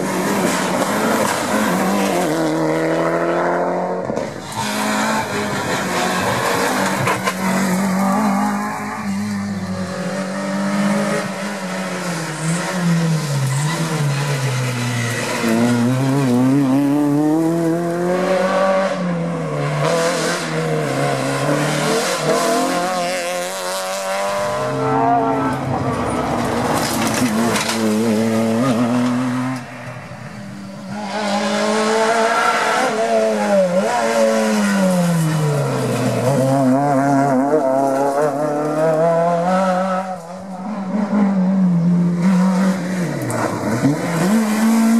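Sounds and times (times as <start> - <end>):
rally car engines revving past: 0.0 - 44.9.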